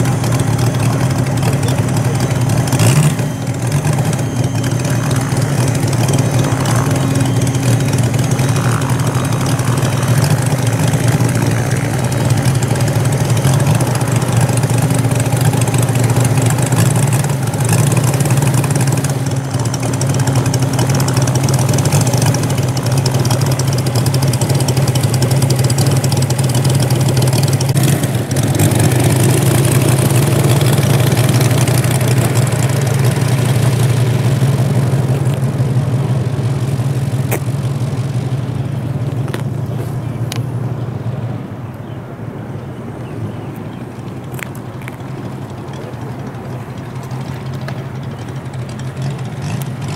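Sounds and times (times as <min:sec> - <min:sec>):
model plane engine idling: 0:00.0 - 0:42.0, 0:43.3 - 0:49.9.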